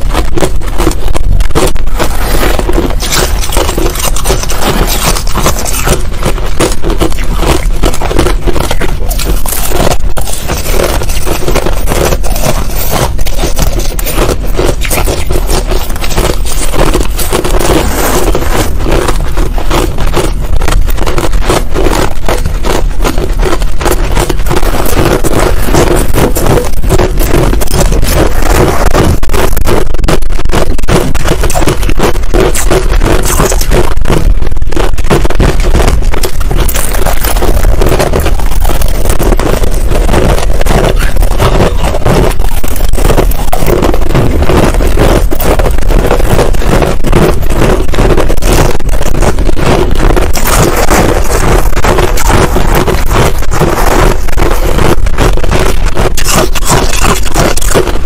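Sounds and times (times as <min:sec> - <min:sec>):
crushed ice being chewed: 0:00.0 - 0:58.0.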